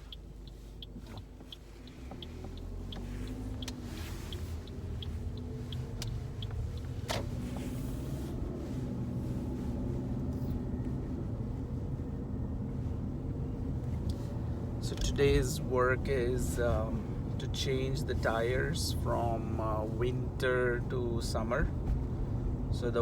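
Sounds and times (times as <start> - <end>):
car engine and road rumble: 0.0 - 23.0
turn signal ticking: 0.0 - 23.0.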